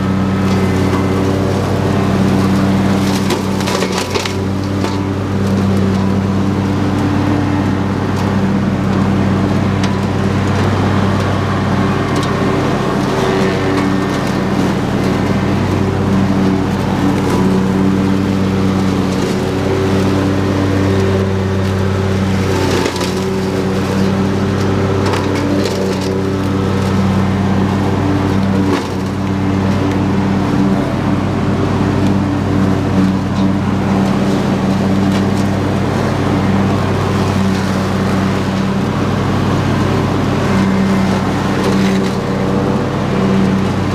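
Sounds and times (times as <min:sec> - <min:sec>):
lawn tractor engine running: 0:00.0 - 0:43.9
mower blades cutting grass: 0:00.0 - 0:43.9.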